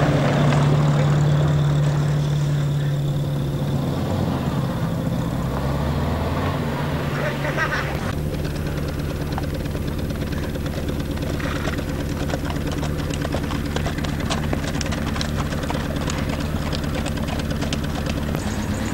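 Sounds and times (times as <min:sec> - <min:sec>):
car engine running steadily: 0:00.0 - 0:18.9.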